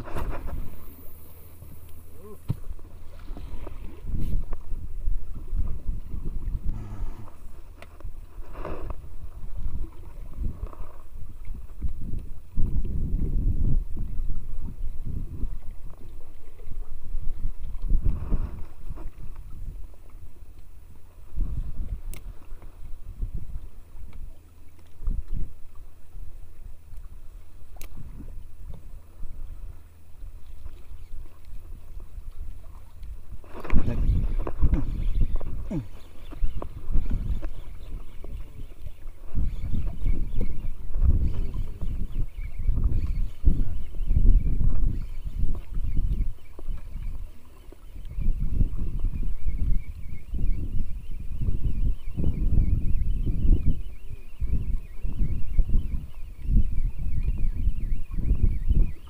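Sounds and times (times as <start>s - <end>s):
wind buffeting microphone: 0.0s - 20.0s, 21.2s - 25.8s, 26.6s - 59.0s
water lapping against hull: 0.0s - 59.0s.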